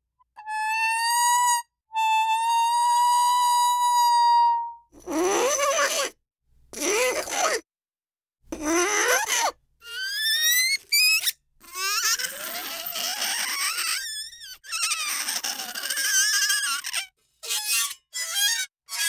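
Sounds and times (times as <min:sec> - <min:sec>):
metal squealing on dry ice: 0:00.4 - 0:06.2, 0:06.8 - 0:07.6, 0:08.6 - 0:19.0.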